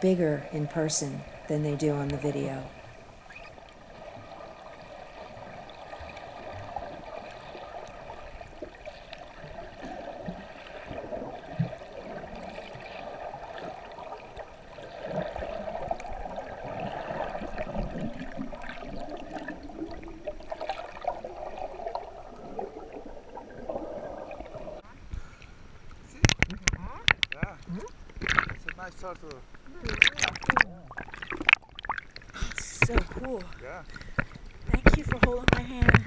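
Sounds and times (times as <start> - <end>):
underwater water gurgling: 0.0 - 25.1, 25.8 - 36.0.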